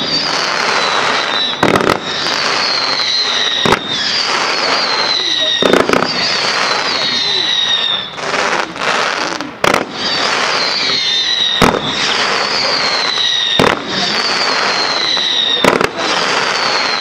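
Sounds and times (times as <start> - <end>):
firework bangs: 0.0 - 17.0
firework hiss and crackle: 0.0 - 17.0
high descending whistle: 0.0 - 17.0.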